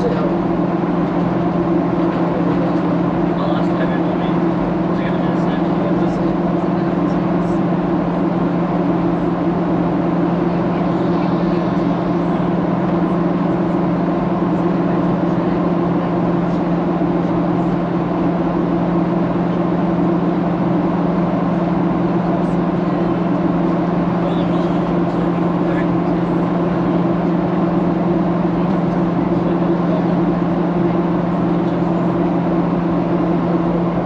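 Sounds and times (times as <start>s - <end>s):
airplane cabin engine drone: 0.0s - 34.0s.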